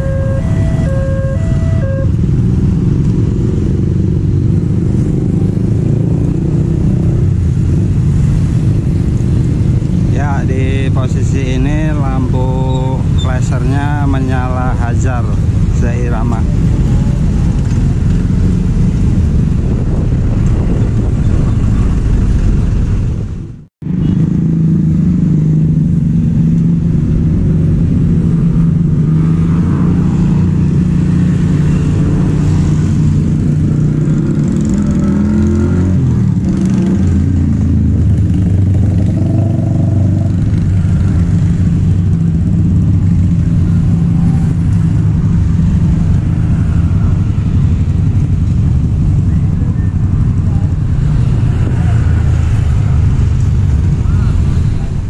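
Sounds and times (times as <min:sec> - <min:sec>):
engine drone: 0:00.0 - 0:55.0
motorcycles and cars passing: 0:00.0 - 0:55.0.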